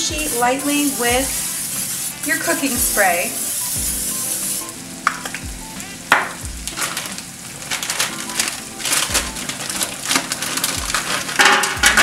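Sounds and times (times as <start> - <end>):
sausage sizzling in frying pan: 0.0 - 12.0.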